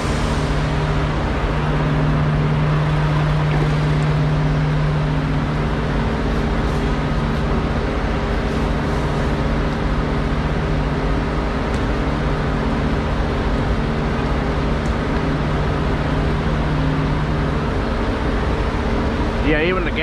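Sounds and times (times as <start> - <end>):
diesel trucks idling: 0.0 - 20.0.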